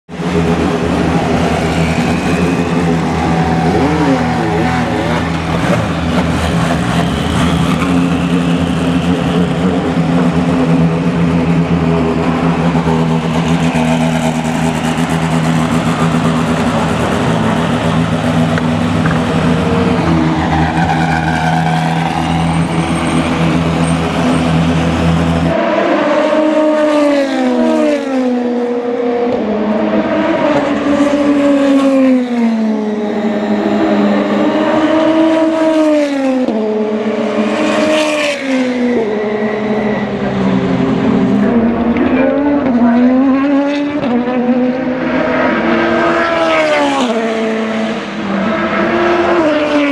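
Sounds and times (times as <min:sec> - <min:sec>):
racing car engines droning: 0:00.1 - 0:49.9
car accelerating through upshifts: 0:00.2 - 0:49.9.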